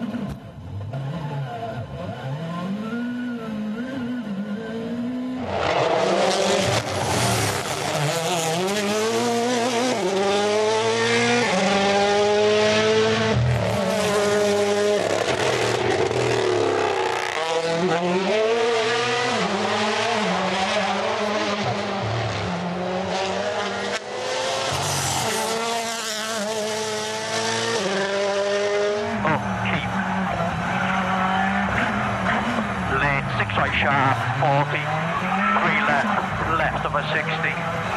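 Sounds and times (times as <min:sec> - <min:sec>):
rally car engines revving: 0:00.0 - 0:37.9.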